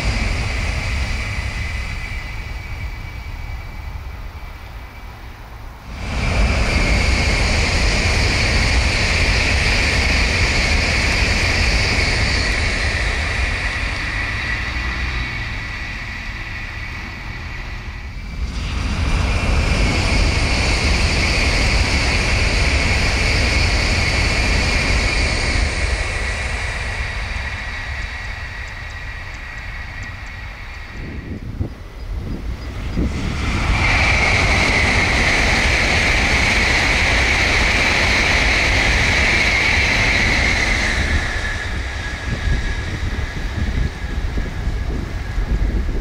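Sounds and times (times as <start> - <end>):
high-speed trains passing: 0.0 - 46.0.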